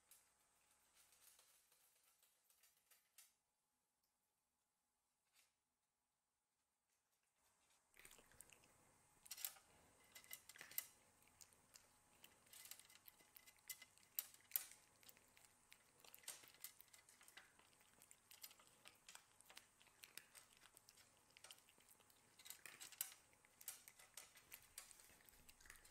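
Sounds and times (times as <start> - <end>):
cats crunching dry kibble: 0.0 - 3.3, 7.5 - 25.9.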